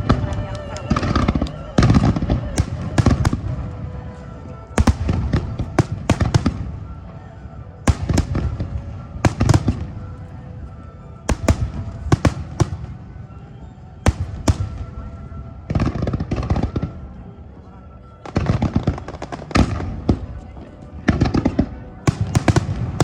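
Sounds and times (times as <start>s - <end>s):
fireworks bursting with sharp bangs: 0.0s - 7.2s, 7.9s - 10.3s, 11.2s - 13.1s, 14.0s - 17.0s, 18.2s - 20.4s, 21.0s - 23.0s
low rumbling echo: 0.0s - 23.0s.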